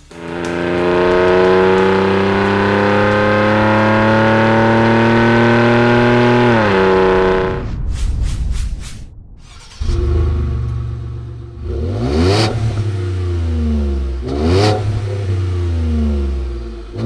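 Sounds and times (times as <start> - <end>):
car engine exhaust accelerating: 0.0 - 7.8, 9.1 - 17.0.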